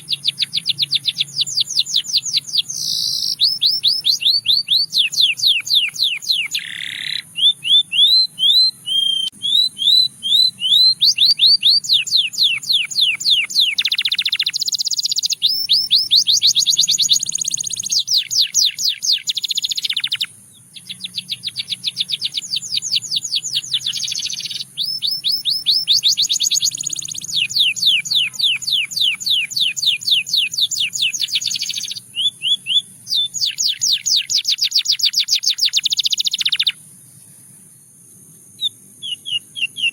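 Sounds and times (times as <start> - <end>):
canary singing rapid trills: 0.0 - 37.1, 38.5 - 39.9.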